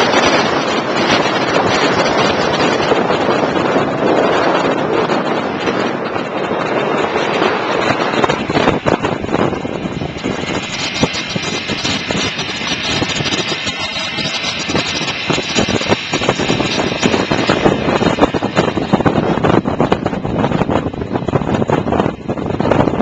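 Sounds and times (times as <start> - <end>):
motor scooter running: 0.0 - 23.0
trailer knocking and rattling: 0.0 - 23.0.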